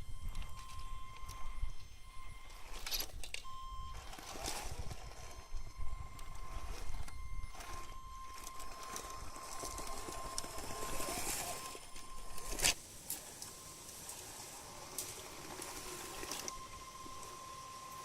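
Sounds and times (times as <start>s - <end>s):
vehicle engine rumble: 0.0s - 17.6s
crackly noise: 0.0s - 18.0s
thin whine: 0.0s - 18.0s.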